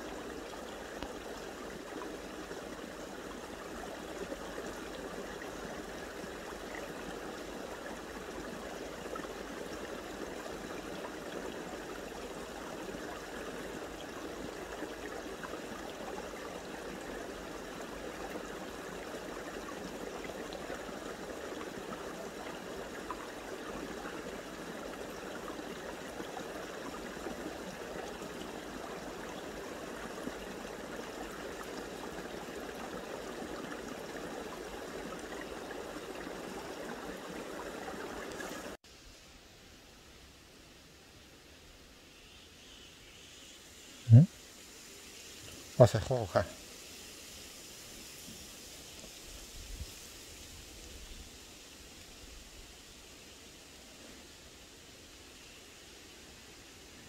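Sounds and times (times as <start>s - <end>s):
flowing stream water: 0.0s - 57.0s.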